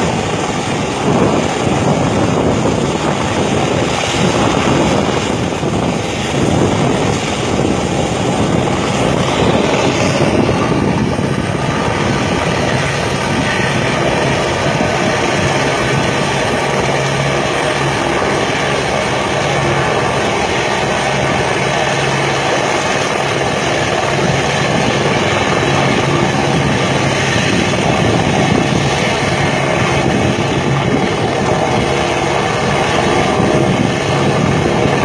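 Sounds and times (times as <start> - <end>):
helicopter rotor beating: 0.0 - 35.0.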